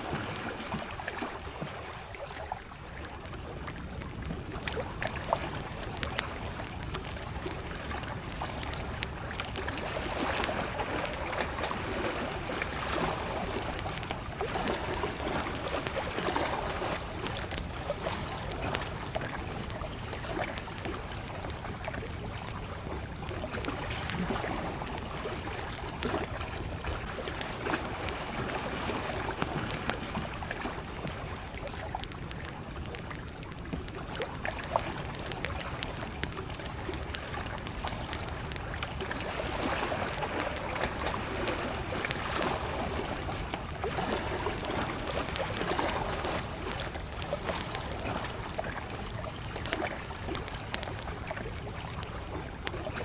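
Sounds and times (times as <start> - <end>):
campfire crackling and popping: 0.0 - 53.0
lake waves lapping: 0.0 - 53.0.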